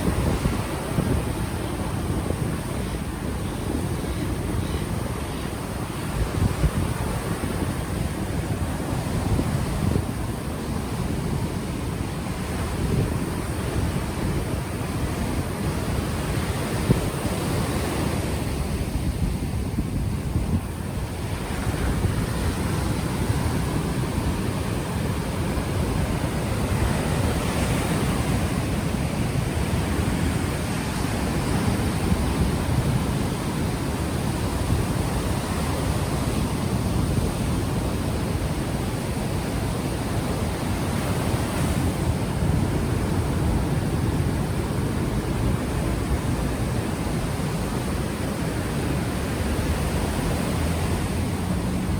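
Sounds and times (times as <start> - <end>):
ocean waves washing onto beach: 0.0 - 51.9
wind buffeting microphone: 0.0 - 51.9.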